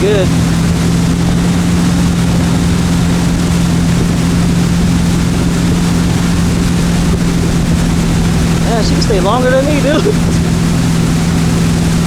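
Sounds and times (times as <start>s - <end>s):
motorboat engine drone: 0.0s - 12.0s
wind and water rushing: 0.0s - 12.0s.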